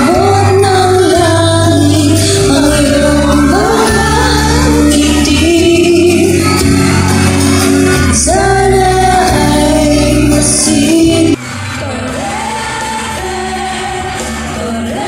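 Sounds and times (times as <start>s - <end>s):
person singing with band: 0.0s - 15.0s.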